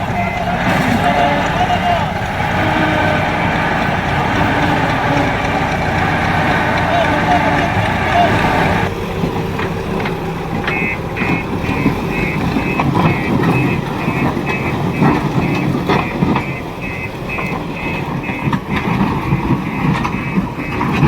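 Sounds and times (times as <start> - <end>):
reversing alarm beeping: 0.0 - 8.9, 10.6 - 21.0
diesel engine running: 0.0 - 21.0.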